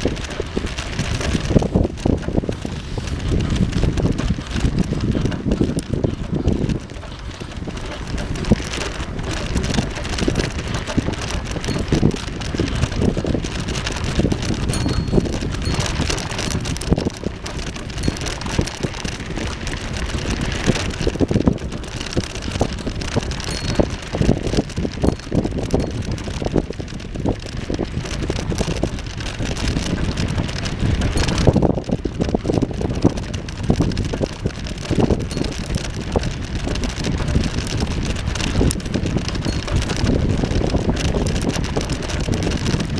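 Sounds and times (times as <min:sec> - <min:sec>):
bike knocks and rattles: 0:00.0 - 0:42.9
bike rolling rumble: 0:00.0 - 0:42.9
wind buffeting microphone: 0:00.0 - 0:42.9.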